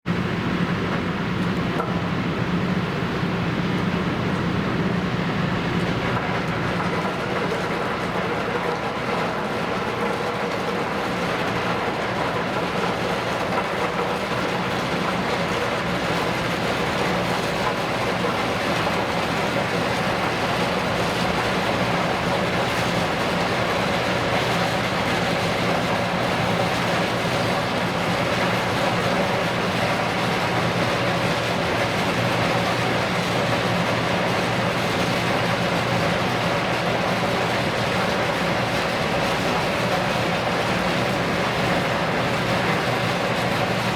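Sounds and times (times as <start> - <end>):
ship engine droning: 0.1 - 43.9.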